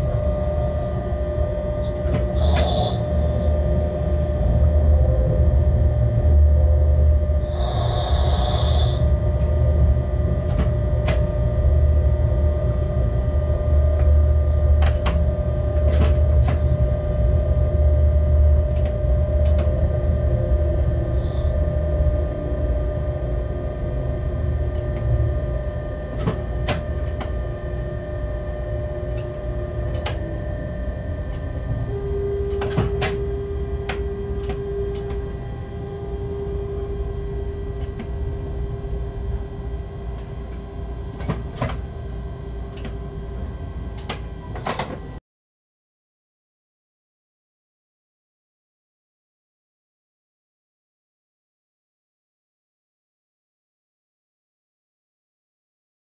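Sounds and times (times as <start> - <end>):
locomotive rumble and hum: 0.0 - 45.2
steady hum: 0.0 - 45.2.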